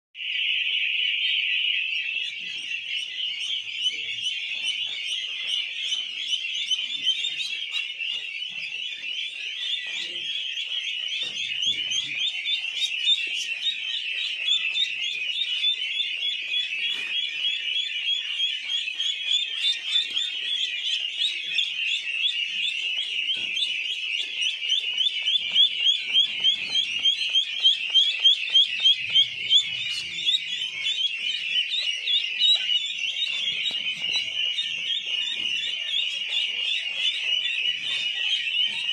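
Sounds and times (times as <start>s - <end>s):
ducklings peeping: 0.2s - 38.9s.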